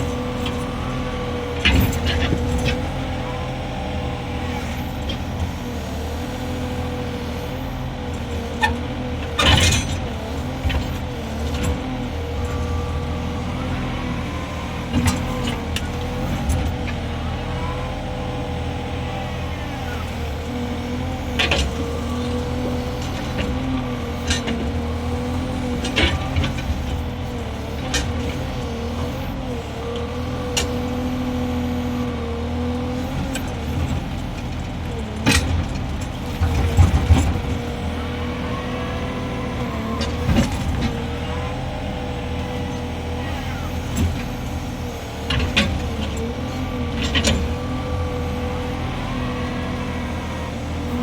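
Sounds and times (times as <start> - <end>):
mini excavator running: 0.0 - 51.0.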